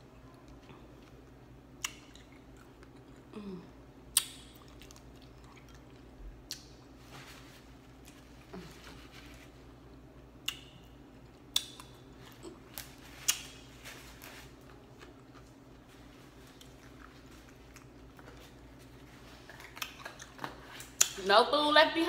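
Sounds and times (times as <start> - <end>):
person chewing: 0.5 - 7.0, 7.8 - 21.2.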